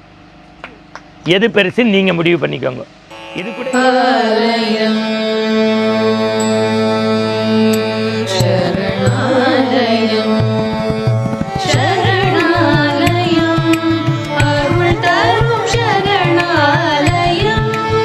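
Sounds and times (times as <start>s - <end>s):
steady drone: 3.0s - 18.0s.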